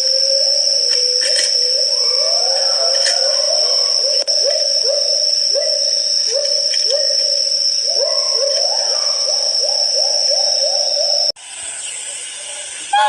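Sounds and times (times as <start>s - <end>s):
pheasant hooting: 0.0s - 11.3s
steady high-pitched whine: 0.0s - 12.9s.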